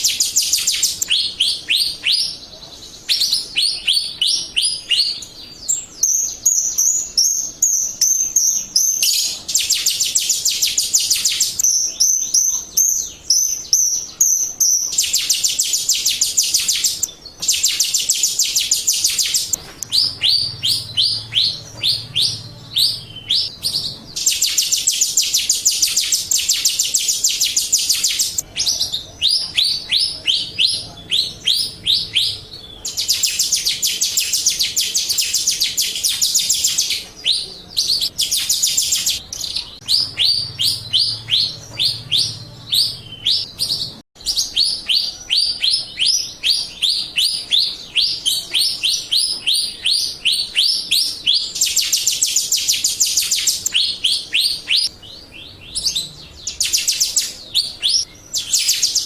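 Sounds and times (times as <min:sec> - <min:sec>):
fast harsh bird chattering: 0:00.0 - 0:59.0
starling whistled song: 0:00.0 - 0:59.0.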